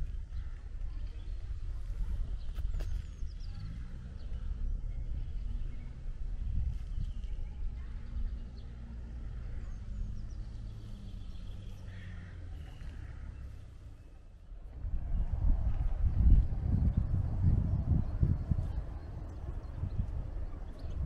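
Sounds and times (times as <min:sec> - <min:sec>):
wind rumble on microphone: 0:00.0 - 0:21.0
small birds chirping: 0:00.1 - 0:21.0.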